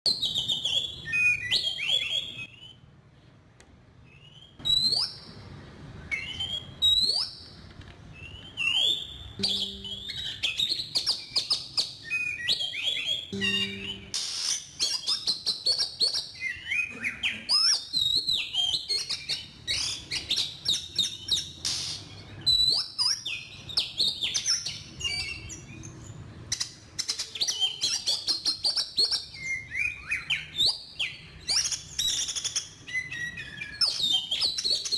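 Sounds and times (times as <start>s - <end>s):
bird whistled song: 0.1s - 2.9s, 4.0s - 5.4s, 6.0s - 34.9s.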